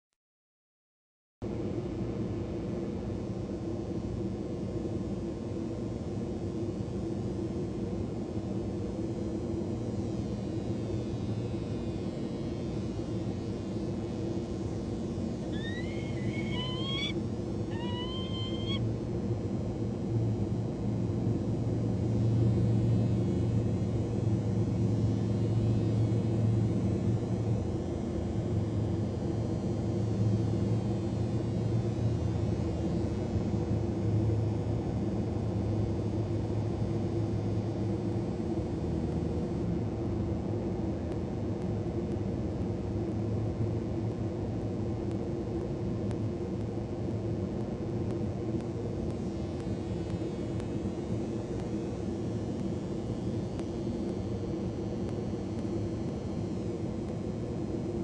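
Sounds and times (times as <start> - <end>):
low rumble with constant hum: 1.5 - 58.0.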